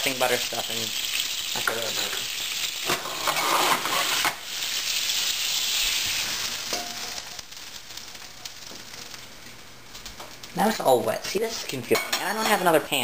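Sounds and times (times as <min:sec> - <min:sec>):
water sizzling in hot pan: 0:00.0 - 0:13.0.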